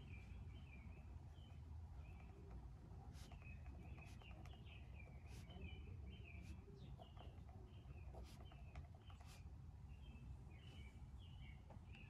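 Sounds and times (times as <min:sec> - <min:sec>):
faint small bird chirping: 0:00.0 - 0:12.0
low background hum: 0:00.0 - 0:12.0.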